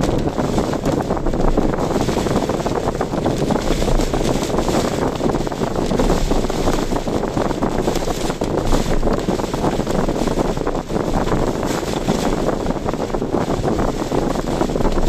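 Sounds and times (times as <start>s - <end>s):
rain pattering on car: 0.0s - 15.0s
wind rushing: 0.0s - 15.0s.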